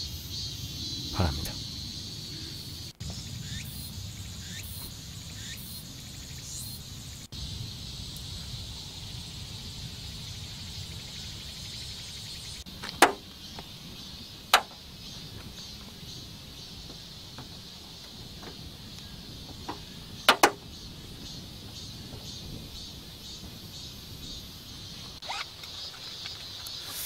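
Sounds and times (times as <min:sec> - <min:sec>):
high insect chirring: 0:00.0 - 0:27.0.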